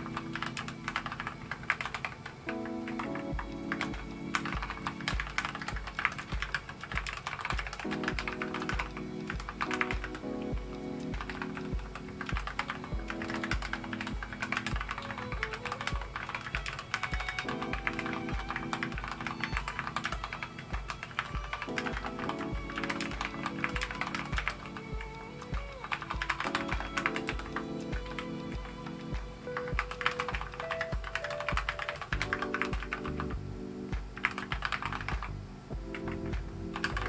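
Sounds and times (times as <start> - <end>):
mechanical keyboard typing: 0.0 - 33.4, 34.0 - 35.3, 35.9 - 37.0
background music with steady beat: 0.0 - 37.0.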